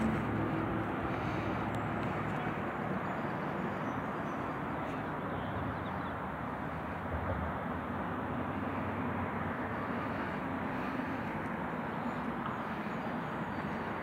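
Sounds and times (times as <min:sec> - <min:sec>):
outdoor background rumble and hiss: 0:00.0 - 0:14.0.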